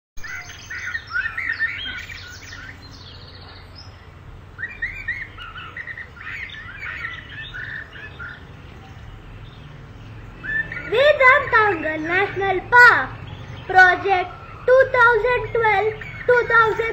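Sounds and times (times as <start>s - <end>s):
small birds chirping: 0.2s - 16.9s.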